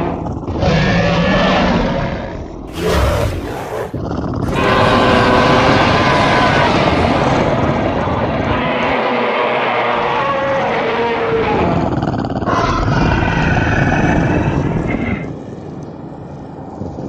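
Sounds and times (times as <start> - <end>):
monster roars: 0.0 - 7.8, 8.4 - 15.4.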